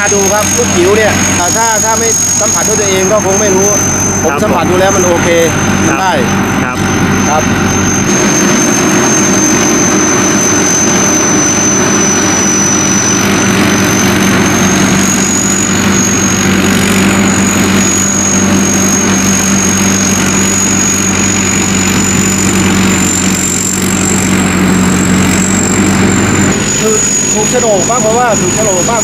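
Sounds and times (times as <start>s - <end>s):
combine harvester engine hum: 0.0s - 29.0s
thin high whine: 0.0s - 29.0s.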